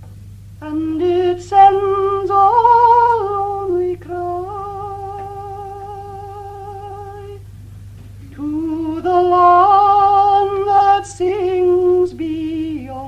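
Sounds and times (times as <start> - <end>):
low recording hum: 0.0 - 13.0
woman singing unaccompanied: 0.6 - 7.4, 8.3 - 13.0.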